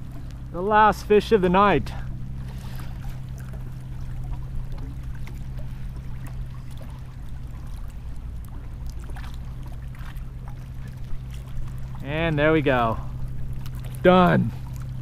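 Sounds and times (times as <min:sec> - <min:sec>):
steady low hum: 0:00.0 - 0:15.0
waves lapping against hull: 0:00.0 - 0:15.0.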